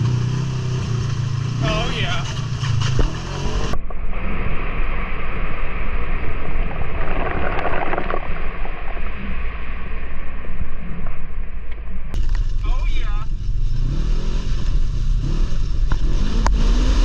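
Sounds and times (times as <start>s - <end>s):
atv engine rumble: 0.0s - 17.0s.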